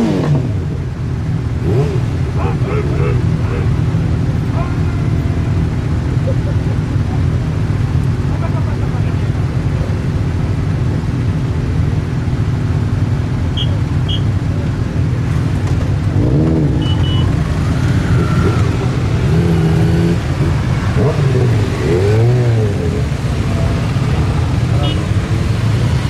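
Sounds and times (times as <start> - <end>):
motorcycle engines idling and revving: 0.0 - 26.0.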